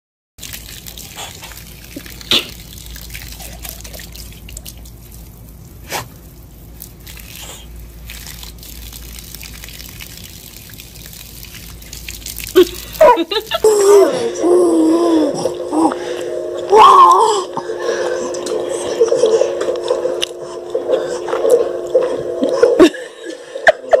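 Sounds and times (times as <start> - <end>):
hose water splashing: 0.4 - 23.0.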